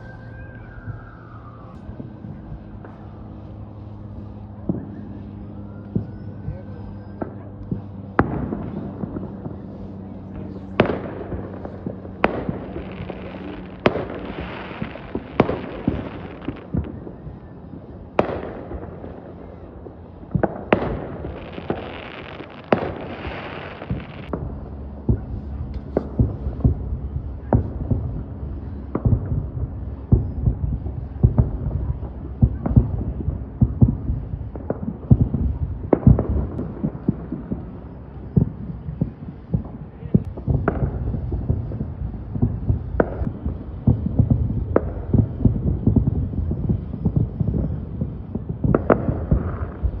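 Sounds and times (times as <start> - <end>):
continuous low rumble: 0.0 - 50.0
fireworks booming: 0.0 - 50.0.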